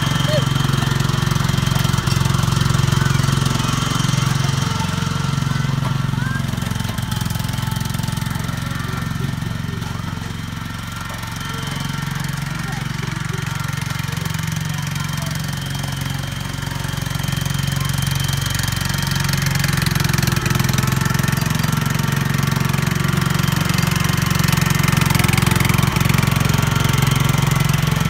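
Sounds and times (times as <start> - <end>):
riding lawn tractor engine running: 0.0 - 28.0.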